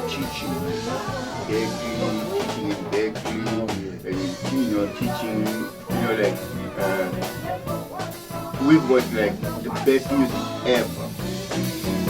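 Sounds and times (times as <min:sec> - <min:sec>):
band music with guitar: 0:00.0 - 0:12.0.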